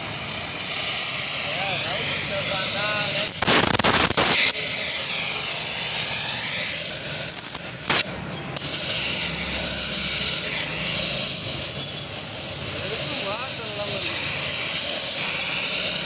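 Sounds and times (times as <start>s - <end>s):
harsh scraping or hissing burst: 0.0s - 16.0s
workshop background noise: 0.0s - 16.0s.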